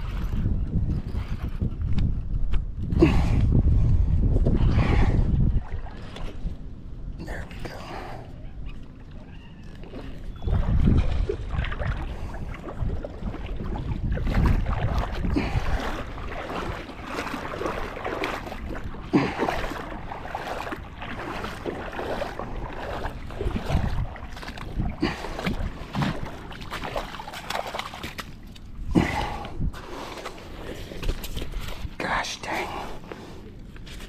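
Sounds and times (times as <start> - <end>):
shallow river water splashing: 0.0 - 1.5, 4.8 - 31.9
wind rumbling on microphone: 0.0 - 34.0.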